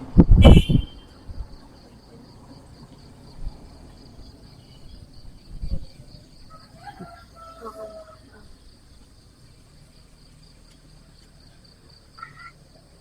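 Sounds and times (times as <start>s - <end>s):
passing motor vehicle: 0.0s - 13.0s
insects trilling: 1.1s - 13.0s.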